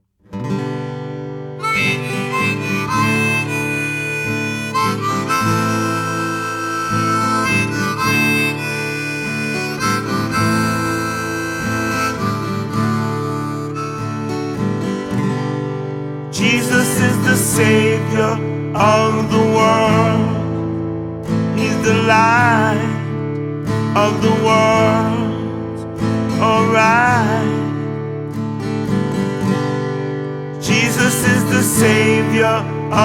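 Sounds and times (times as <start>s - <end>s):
strummed acoustic guitar: 0.2s - 33.0s
harmonica melody: 1.4s - 33.0s.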